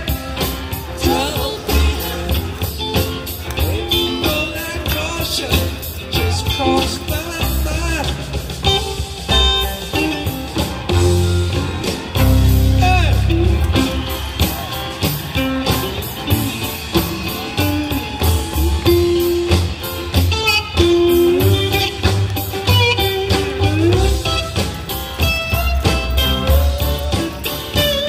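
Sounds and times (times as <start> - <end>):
blues-rock song with singing: 0.0 - 28.0.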